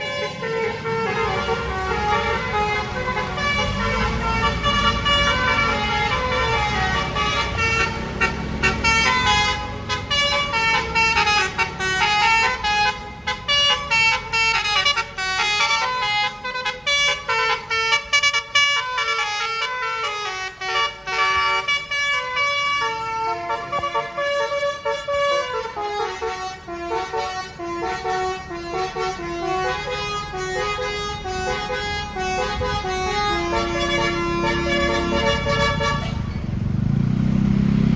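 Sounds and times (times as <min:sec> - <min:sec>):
multi-tone bus horn playing tune: 0:00.0 - 0:36.7
bus engine rumbling: 0:00.0 - 0:37.9.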